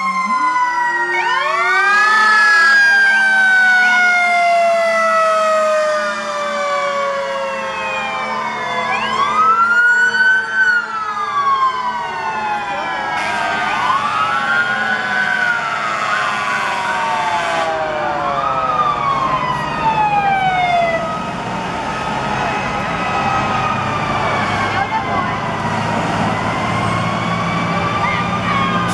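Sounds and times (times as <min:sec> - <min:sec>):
fire truck sirens wailing: 0:00.0 - 0:28.9
truck engines rumbling: 0:00.0 - 0:28.9.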